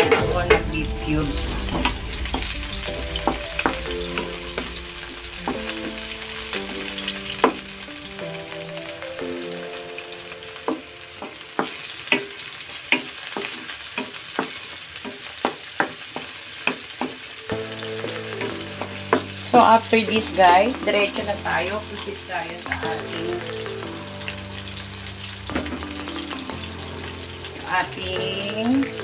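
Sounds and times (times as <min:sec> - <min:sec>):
soft background music: 0:00.0 - 0:12.3, 0:17.4 - 0:29.0
vegetables sizzling in oil: 0:00.0 - 0:29.0.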